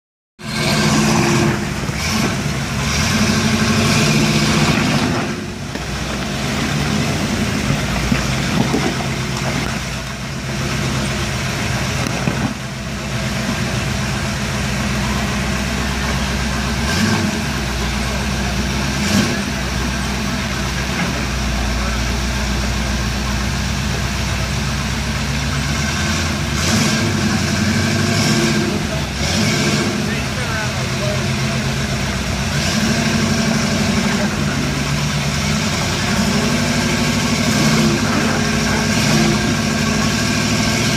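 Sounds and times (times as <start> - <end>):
truck engine running at low revs: 0.4 - 40.9.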